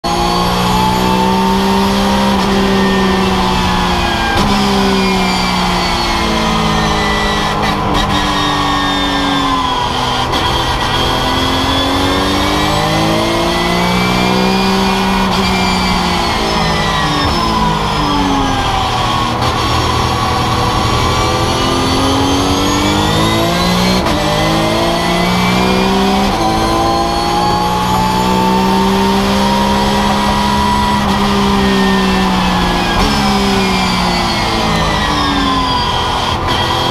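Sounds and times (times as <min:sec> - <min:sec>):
race car engine shifting gears: 0:00.0 - 0:36.9.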